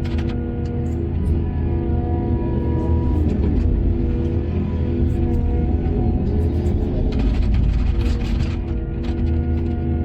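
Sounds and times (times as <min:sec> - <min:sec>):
heavy diesel machinery rumbling: 0:00.0 - 0:10.0.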